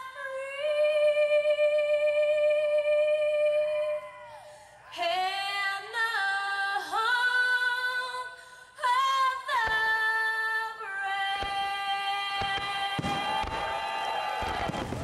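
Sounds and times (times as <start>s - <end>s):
woman singing: 0.0s - 4.2s, 4.9s - 13.4s.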